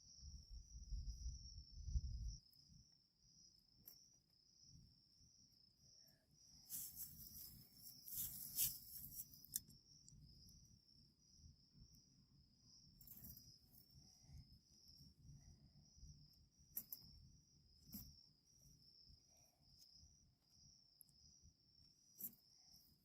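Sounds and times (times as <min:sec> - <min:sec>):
crickets chirping faintly: 0:00.0 - 0:23.0.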